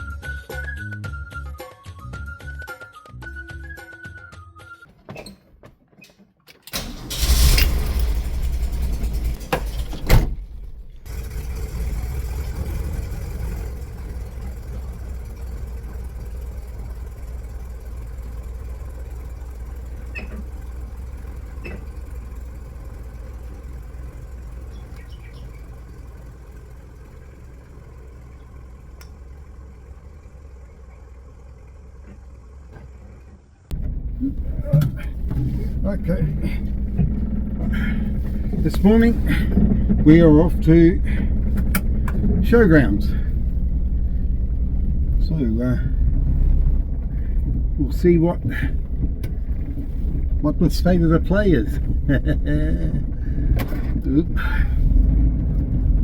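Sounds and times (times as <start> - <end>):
van engine starting and idling: 6.5 - 56.0.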